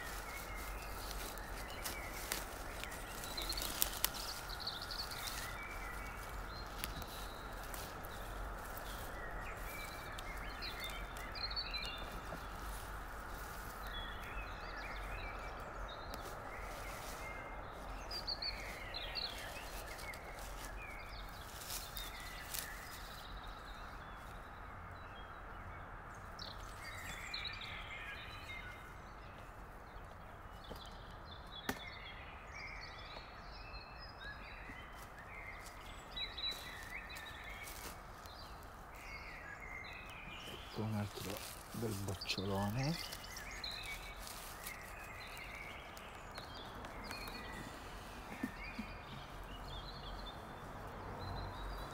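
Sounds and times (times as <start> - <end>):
dry leaves rustling and crackling: 0.0 - 24.5, 34.2 - 51.9
steady outdoor hiss: 0.0 - 51.9.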